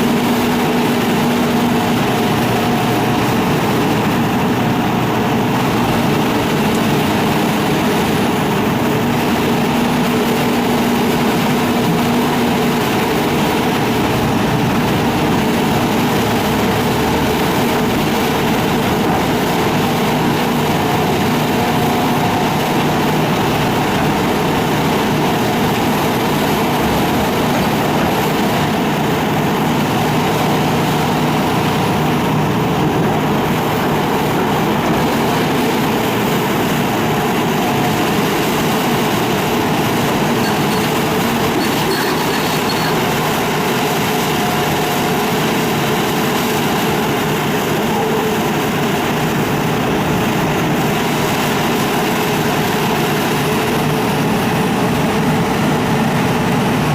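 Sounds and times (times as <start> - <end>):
excavator engine droning: 0.0 - 56.9.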